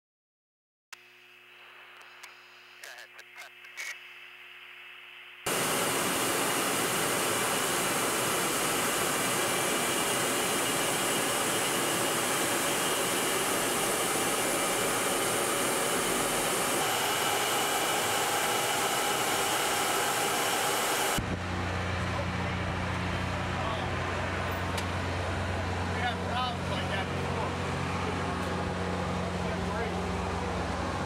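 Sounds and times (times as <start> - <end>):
jet aircraft roar: 5.5 - 31.0.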